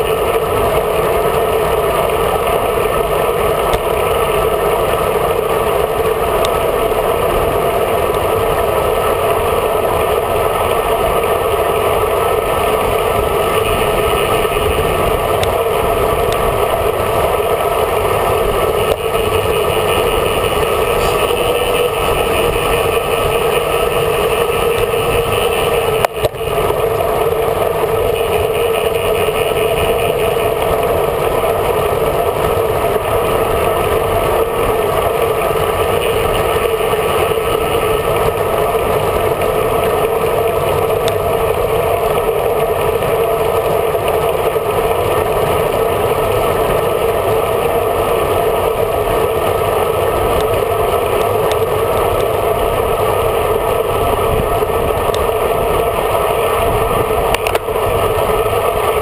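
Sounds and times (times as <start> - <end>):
bicycle road noise: 0.0 - 59.0
wind rush on microphone: 0.0 - 59.0.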